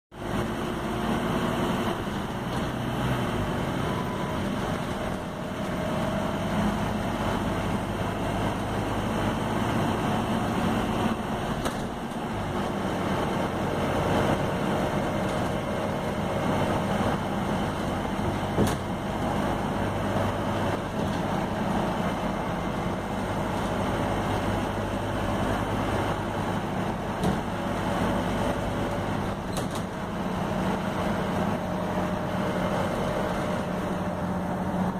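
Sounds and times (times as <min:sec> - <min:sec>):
bus diesel engine running: 0:00.1 - 0:34.9.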